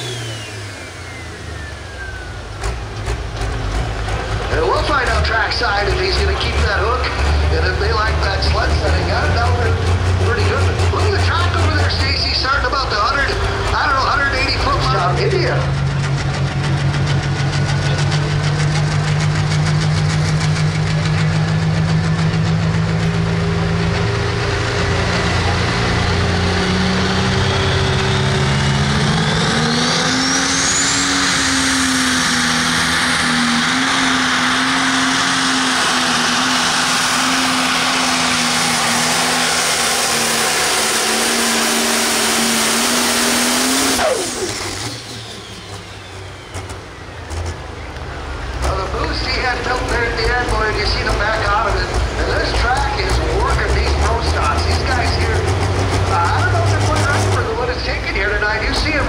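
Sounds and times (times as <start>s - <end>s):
diesel tractor engine at full throttle: 0.0s - 59.0s.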